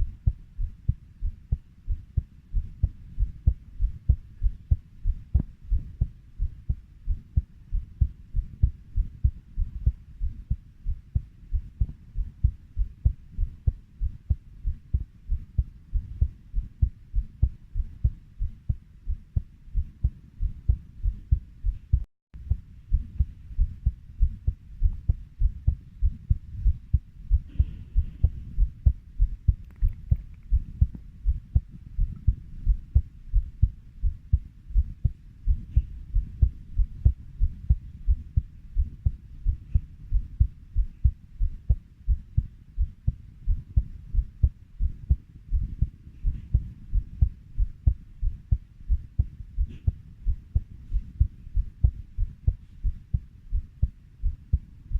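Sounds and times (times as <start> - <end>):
heartbeat thumps: 0.0 - 54.9.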